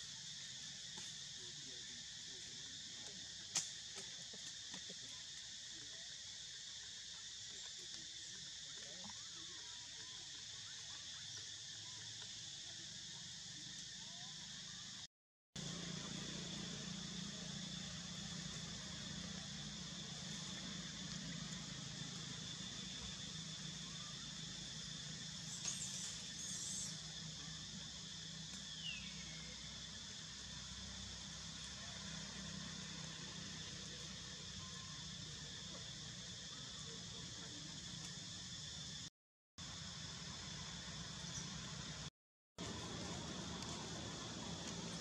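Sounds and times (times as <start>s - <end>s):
high drone of insects: 0.0s - 45.0s.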